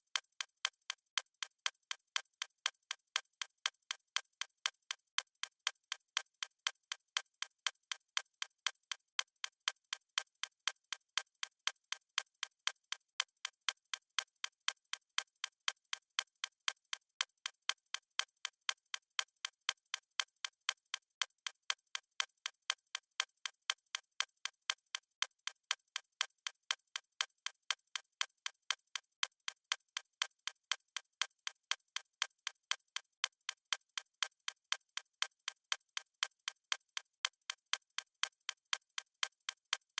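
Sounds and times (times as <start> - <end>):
stopwatch ticking: 0.0 - 11.5, 12.1 - 39.9.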